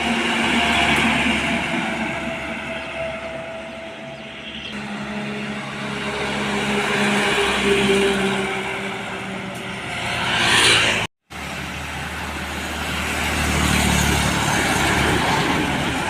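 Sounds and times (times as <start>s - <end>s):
heavy vehicles passing: 0.0s - 16.0s.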